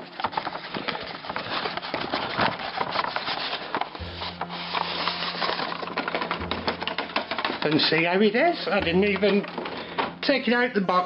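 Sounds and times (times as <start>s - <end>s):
cardboard packaging being handled: 0.0s - 10.9s.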